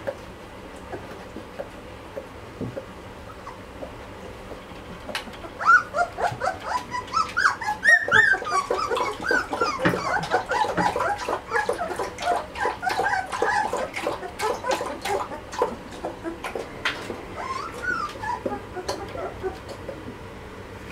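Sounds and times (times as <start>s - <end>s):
puppies whimpering and squeaking: 0.8s - 2.3s, 3.1s - 20.1s.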